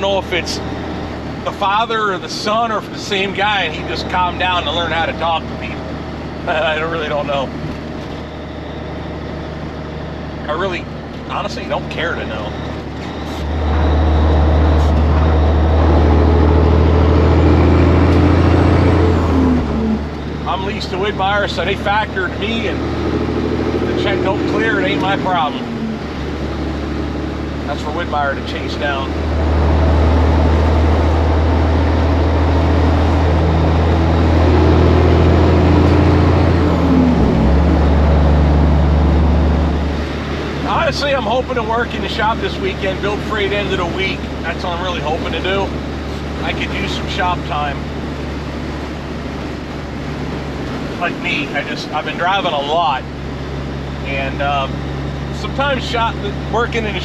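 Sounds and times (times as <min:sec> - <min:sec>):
truck diesel engine droning: 0:00.0 - 0:57.0.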